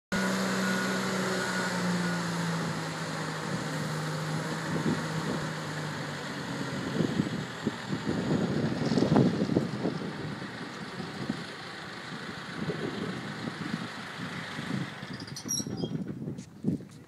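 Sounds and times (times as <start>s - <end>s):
engine humming: 0.1s - 17.0s.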